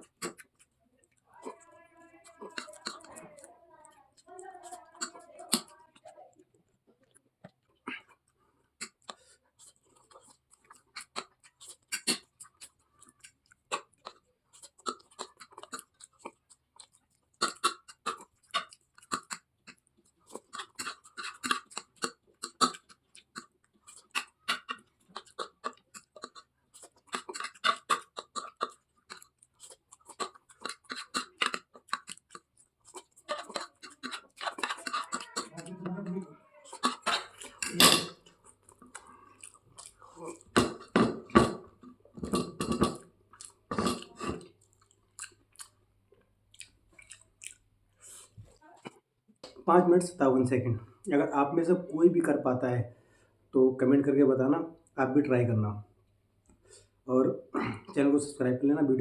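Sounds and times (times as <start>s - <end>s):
wet chewing of noodles: 0.0s - 49.6s.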